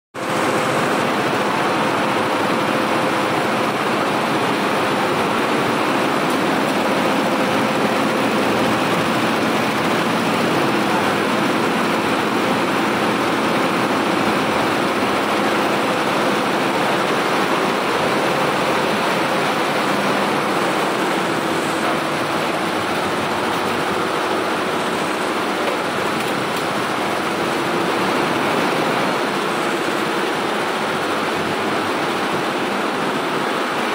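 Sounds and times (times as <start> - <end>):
embroidery machine running: 0.2 - 33.9.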